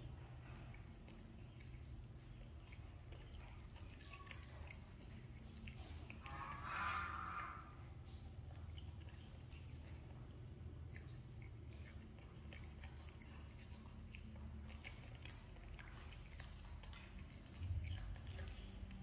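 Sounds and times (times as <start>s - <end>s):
monkey chewing corn: 0.0s - 19.0s.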